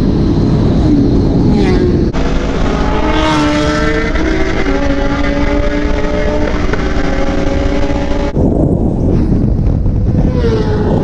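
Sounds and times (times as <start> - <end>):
motorcycle engines running hard: 0.0 - 11.0
wind rumble on microphone: 0.0 - 11.0.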